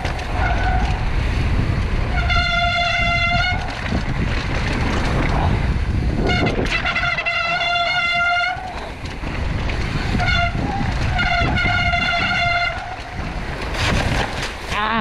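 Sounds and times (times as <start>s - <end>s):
constant low rumble: 0.0s - 15.0s.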